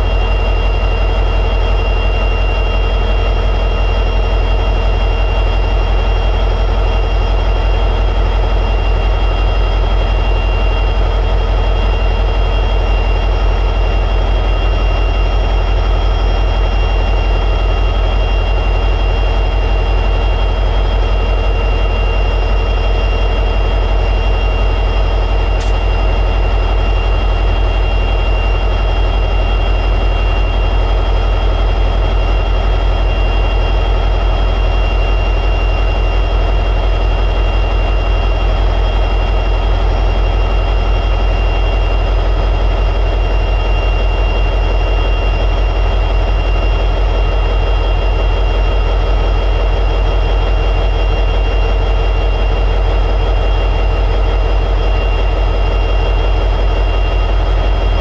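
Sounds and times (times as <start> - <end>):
diesel locomotive engine idling: 0.0 - 58.0.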